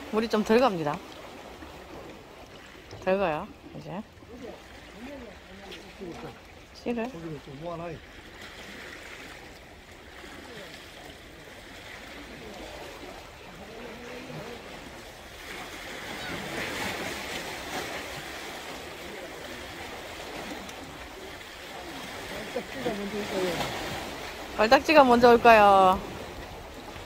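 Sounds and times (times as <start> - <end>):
small waves lapping against rocks: 0.0 - 27.0.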